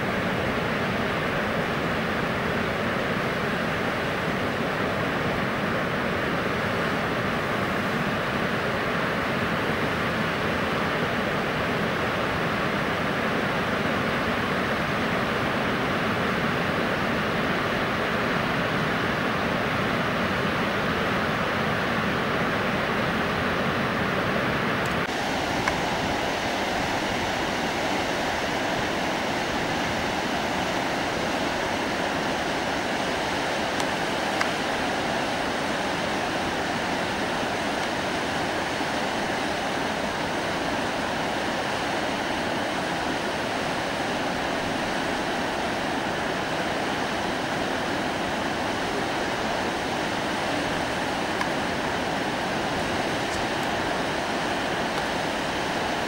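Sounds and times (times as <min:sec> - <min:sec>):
fast-flowing river water: 0:00.0 - 0:56.0.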